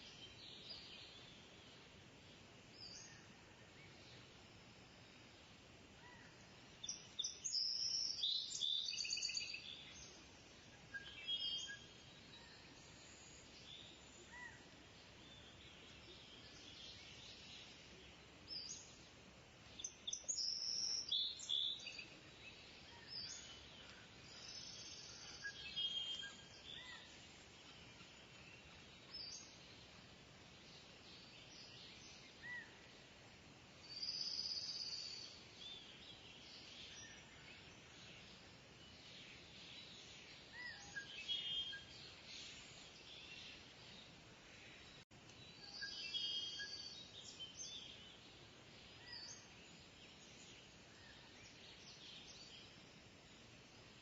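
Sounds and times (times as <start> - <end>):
faint outdoor background: 0.0 - 54.0.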